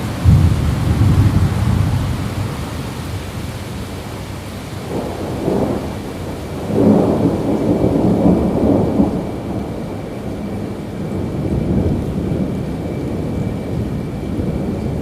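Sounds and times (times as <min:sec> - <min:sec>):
thunder rumbling: 0:00.0 - 0:03.9, 0:04.7 - 0:15.0
steady rain: 0:00.0 - 0:15.0.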